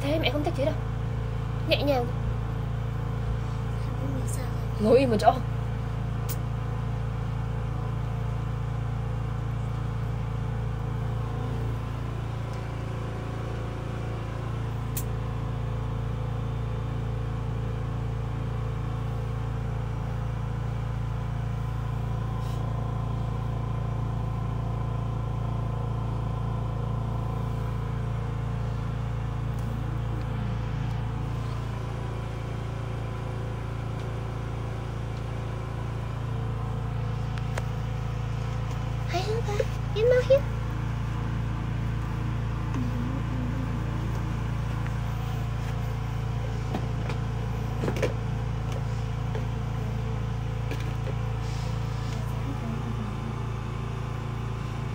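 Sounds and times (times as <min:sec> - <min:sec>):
low mechanical hum: 0:00.0 - 0:54.9.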